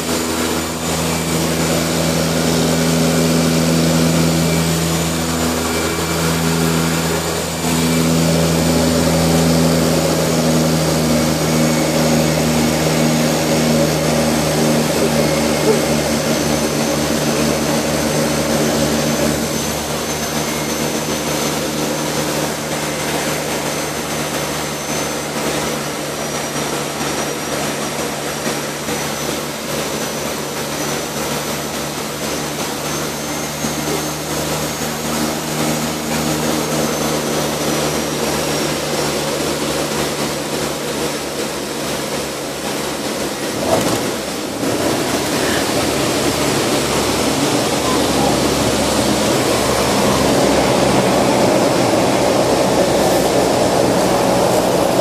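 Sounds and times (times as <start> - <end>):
high turbine whine: 0.0 - 55.0
propeller drone: 0.0 - 55.0.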